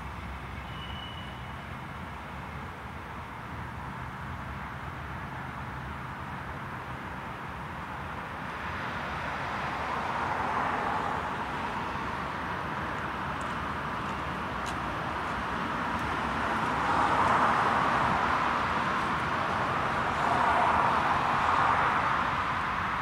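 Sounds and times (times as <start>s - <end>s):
cars passing on road: 0.0s - 23.0s.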